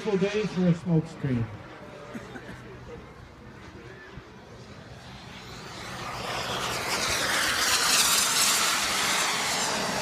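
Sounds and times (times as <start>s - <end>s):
jet aircraft passing: 0.0s - 10.0s.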